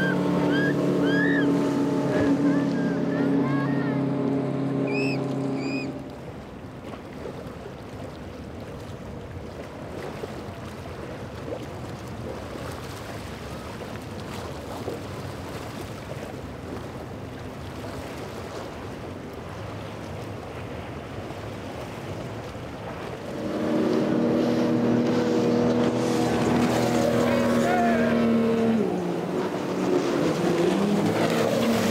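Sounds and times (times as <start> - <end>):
boat engines running: 0.0 - 31.9
outboard engine running: 0.0 - 31.9
rushing water: 0.0 - 31.9
wind: 0.0 - 31.9.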